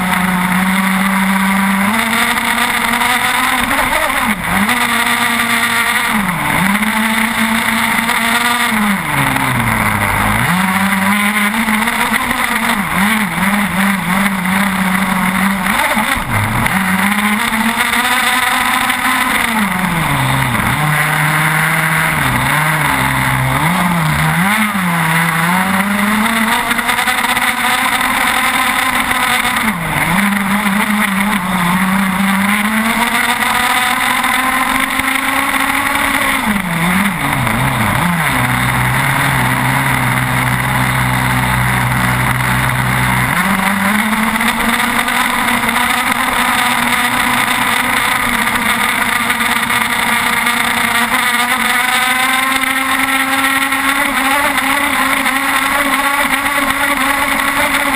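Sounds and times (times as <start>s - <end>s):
two-stroke boat engine revving: 0.0s - 57.9s.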